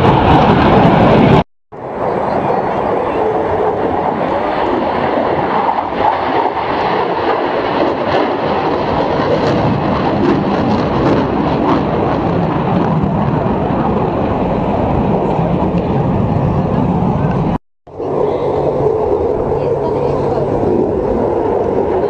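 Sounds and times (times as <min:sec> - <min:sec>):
plane flying over: 0:00.0 - 0:22.0.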